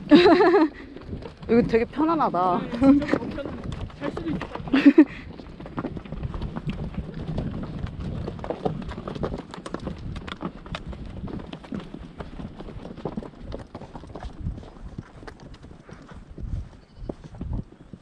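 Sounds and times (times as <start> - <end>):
horse hoofbeats: 0.0 - 18.0.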